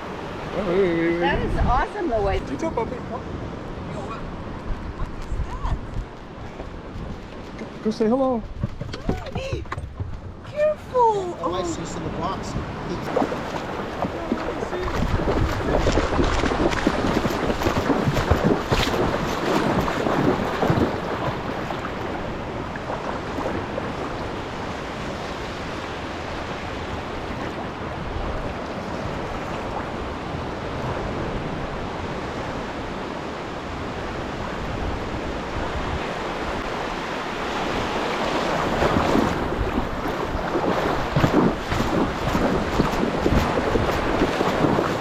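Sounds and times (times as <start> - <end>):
ocean surf washing in: 0.0 - 8.4, 10.4 - 45.0
wind buffeting microphone: 0.0 - 45.0.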